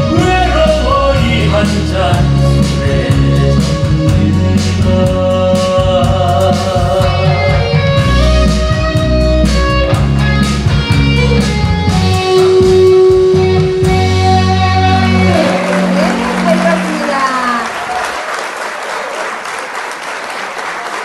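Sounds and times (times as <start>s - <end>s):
instrumental pop band music: 0.0s - 18.2s.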